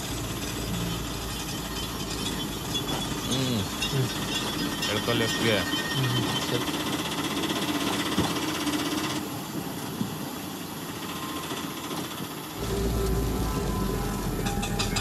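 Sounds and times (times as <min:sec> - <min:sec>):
auto-rickshaw engine running: 0:00.0 - 0:15.0.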